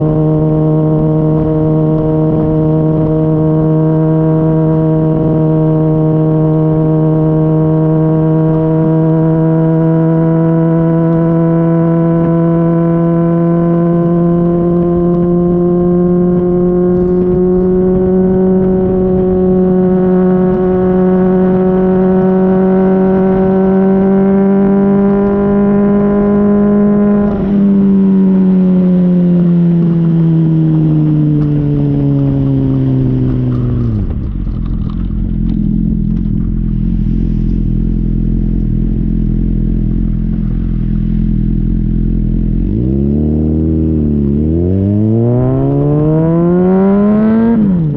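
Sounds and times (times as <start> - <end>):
motorcycle exhaust note: 0.0 - 47.9.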